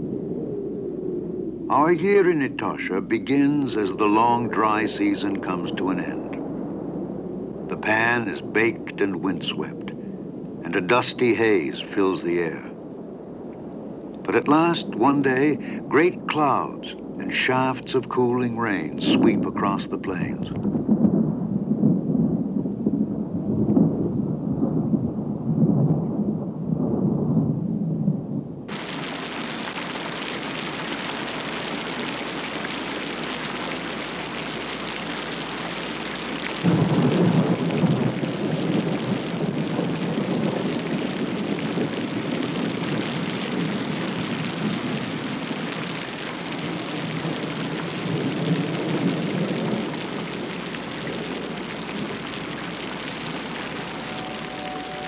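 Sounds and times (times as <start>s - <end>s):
rolling thunder: 0.0s - 17.4s, 20.2s - 55.0s
heavy rain hissing: 0.0s - 25.0s, 28.6s - 55.0s.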